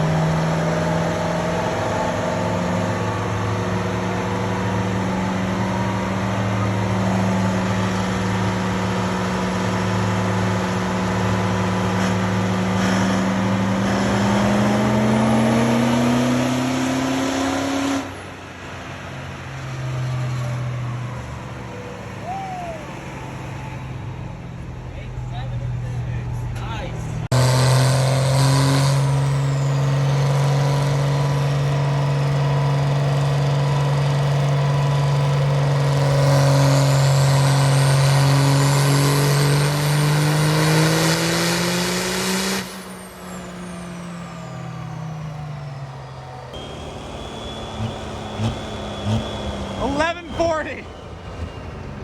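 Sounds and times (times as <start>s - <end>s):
diesel truck engine droning: 0.0s - 52.0s.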